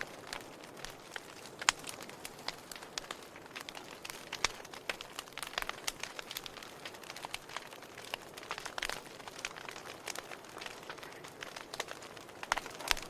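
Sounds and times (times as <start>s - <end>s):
soft steady hiss: 0.0s - 13.0s
wood fire crackling and popping: 0.0s - 13.0s.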